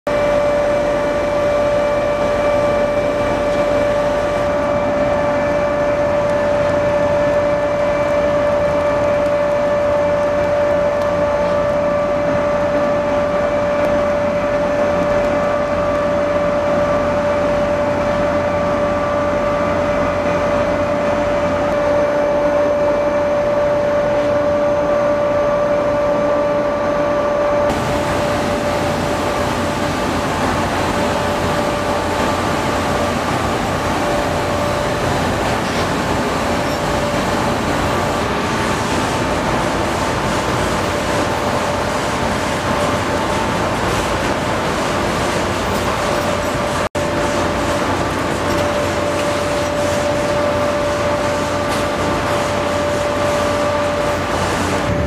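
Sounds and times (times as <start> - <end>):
constant high whine: 0.1 - 55.0
ship machinery hum: 0.1 - 55.0.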